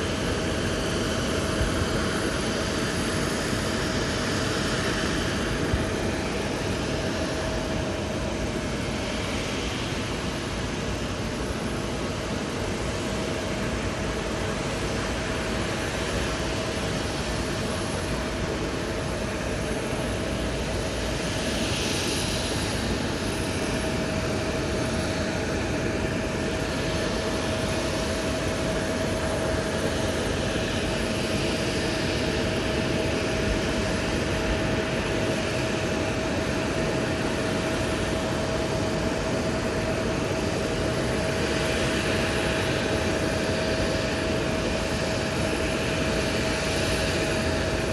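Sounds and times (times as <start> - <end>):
distant jet engines whining: 0.0 - 47.9.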